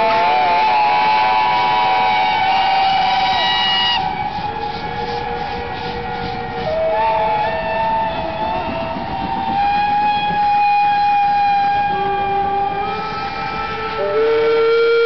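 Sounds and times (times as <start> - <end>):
low-pitched whistle: 0.0 - 15.0
steam locomotive whistles: 0.0 - 15.0.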